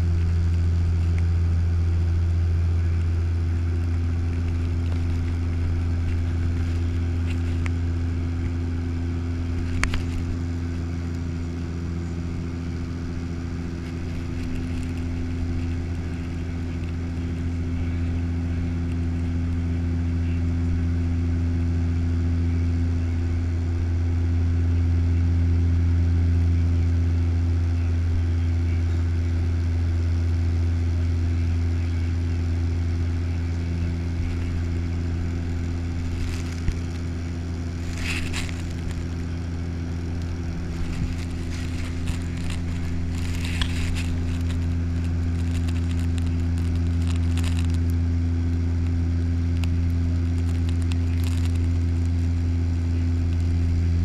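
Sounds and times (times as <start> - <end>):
propeller engine droning in cabin: 0.0 - 54.0.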